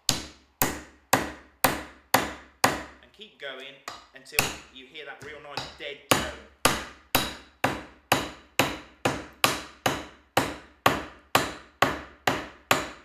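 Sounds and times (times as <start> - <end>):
hammer striking wooden wedge: 0.0 - 3.0, 3.8 - 13.0.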